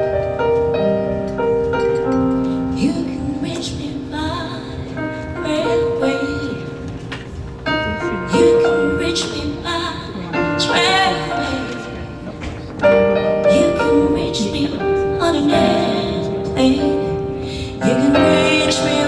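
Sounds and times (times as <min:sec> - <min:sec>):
piano chords: 0:00.0 - 0:19.0
person singing with vibrato: 0:02.5 - 0:07.1, 0:07.7 - 0:19.0.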